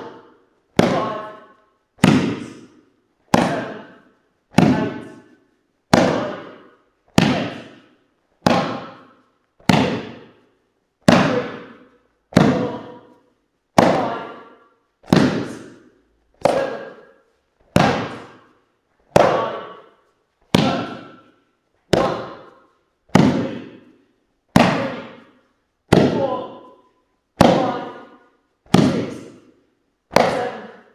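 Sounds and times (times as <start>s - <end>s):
body slapping on foam mat: 0.0s - 21.3s, 21.9s - 26.8s, 27.4s - 30.9s.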